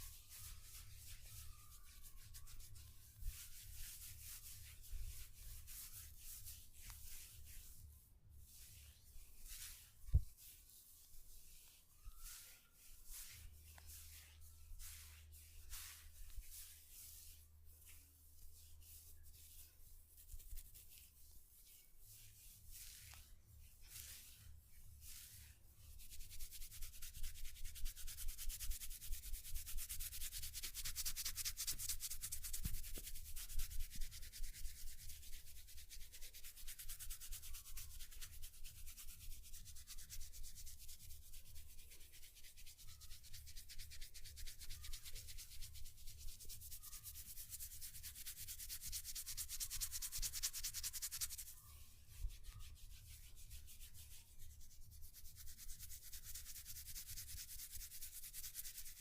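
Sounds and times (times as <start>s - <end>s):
hair and scalp being rubbed: 0.0s - 59.0s.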